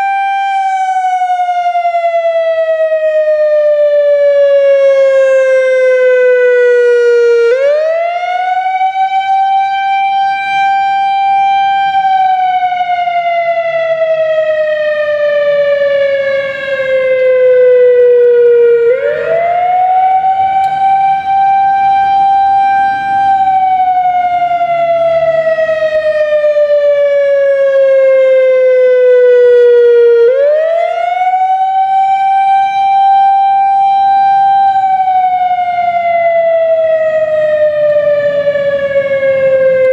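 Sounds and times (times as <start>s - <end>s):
electronic warning siren wailing: 0.0s - 39.9s.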